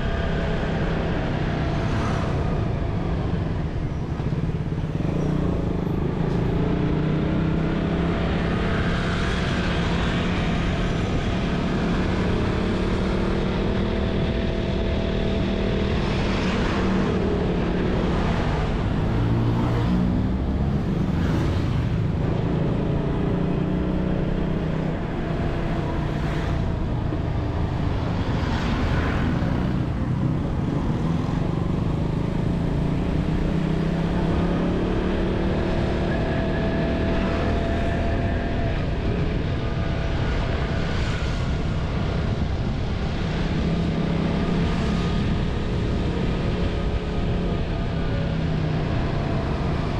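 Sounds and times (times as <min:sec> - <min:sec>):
traffic rushing by: 0:00.0 - 0:49.9.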